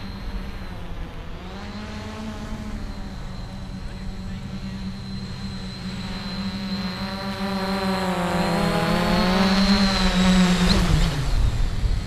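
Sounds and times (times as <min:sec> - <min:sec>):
quadcopter propellers humming: 0:00.0 - 0:12.0.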